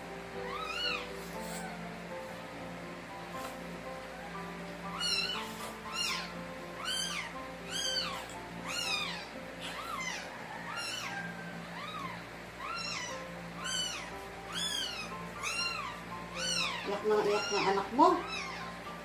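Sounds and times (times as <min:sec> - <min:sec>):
puppy crying: 0:00.3 - 0:02.3, 0:04.0 - 0:19.0.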